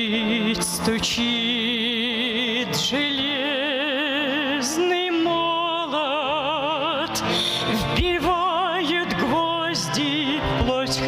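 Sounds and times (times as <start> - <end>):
person singing a hymn: 0.0 - 11.0.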